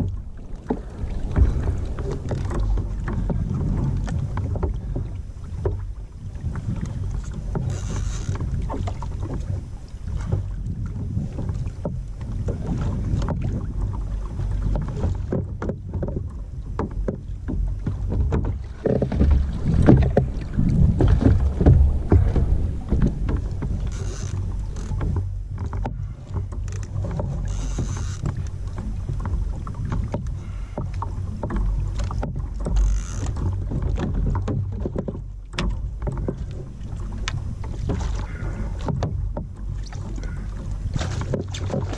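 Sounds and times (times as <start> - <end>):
water sloshing against kayak hull: 0.0 - 41.9
water splashing: 0.0 - 41.9
wind rumble on microphone: 0.0 - 41.9.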